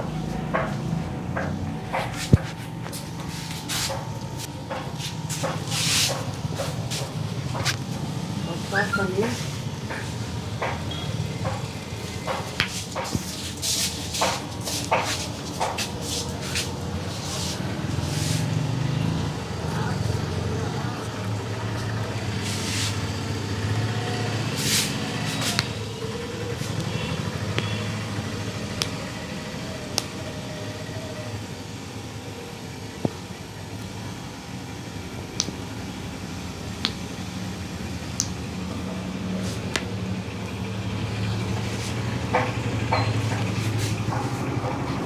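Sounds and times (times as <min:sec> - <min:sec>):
street traffic hum: 0:00.0 - 0:45.0.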